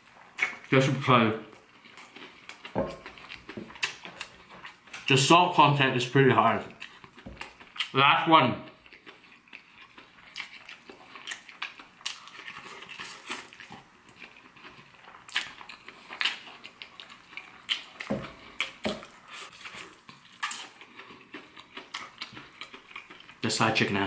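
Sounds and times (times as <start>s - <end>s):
crunching fried chicken: 0.0s - 5.3s, 6.3s - 24.0s.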